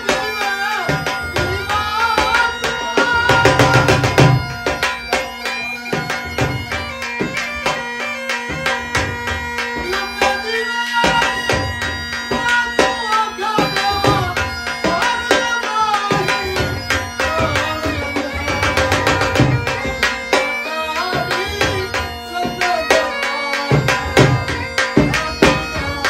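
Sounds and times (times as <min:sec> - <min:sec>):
bagpipe folk melody with drone: 0:00.0 - 0:26.0
barrel drum beating rhythm: 0:00.0 - 0:26.0.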